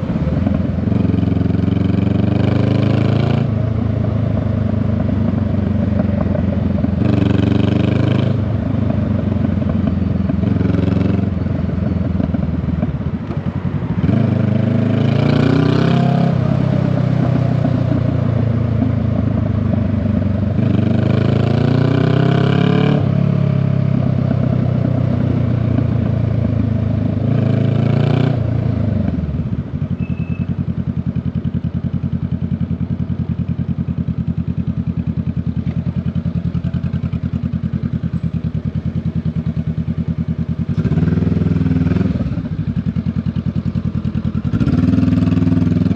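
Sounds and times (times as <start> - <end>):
motorcycle engine revving: 0.0 - 12.7, 14.0 - 45.9.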